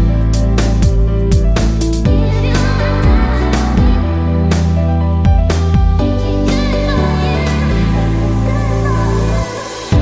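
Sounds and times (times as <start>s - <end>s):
music with deep bass and plucked guitar: 0.0s - 9.0s.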